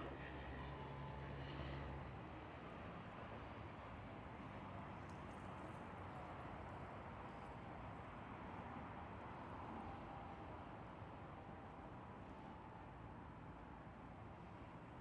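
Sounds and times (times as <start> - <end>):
low hum of distant traffic: 0.0 - 15.0.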